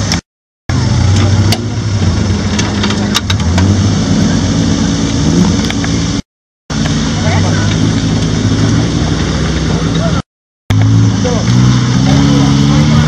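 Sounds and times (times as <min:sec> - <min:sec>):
four-cylinder engine running under load: 0:00.0 - 0:13.0.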